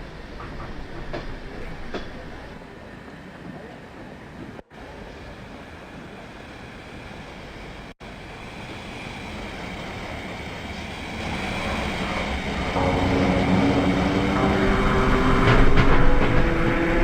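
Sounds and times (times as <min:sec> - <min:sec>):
diesel locomotive engine drone: 0:00.0 - 0:17.0
train rolling stock rumble: 0:00.0 - 0:17.0.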